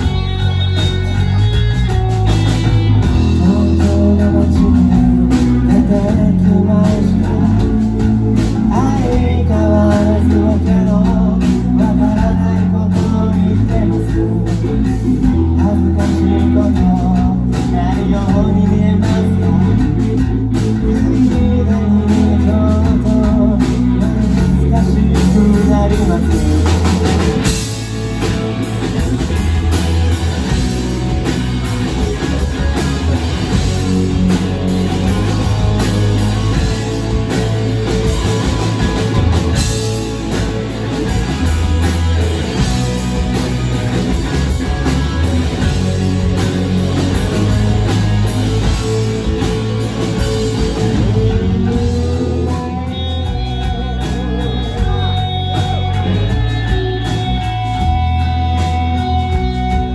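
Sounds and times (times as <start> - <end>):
distorted electric guitars: 0.0 - 59.9
drum kit: 0.0 - 59.9
electric bass: 0.0 - 59.9.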